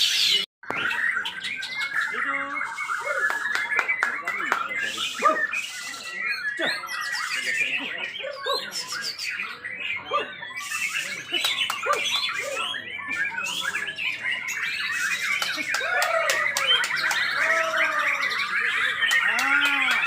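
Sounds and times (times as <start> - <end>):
songbirds chorus: 0.0 - 20.0.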